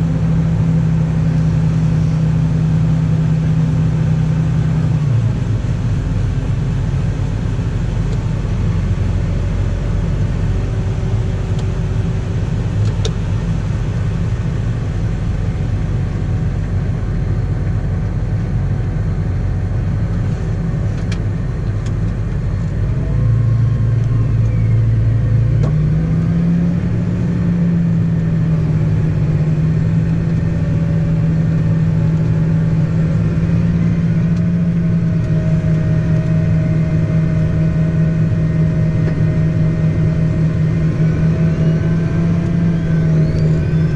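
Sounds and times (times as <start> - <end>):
farm machine engine running: 0.0 - 43.9.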